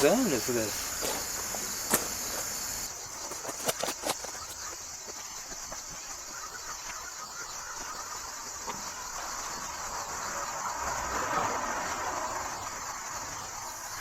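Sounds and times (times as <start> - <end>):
high insect chirring: 0.0 - 14.0.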